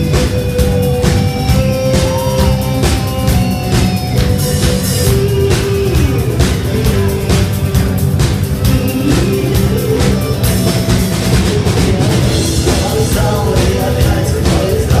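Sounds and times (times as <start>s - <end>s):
drum-kit beat: 0.0s - 15.0s
guitar: 0.0s - 15.0s
loud rock music: 0.0s - 15.0s.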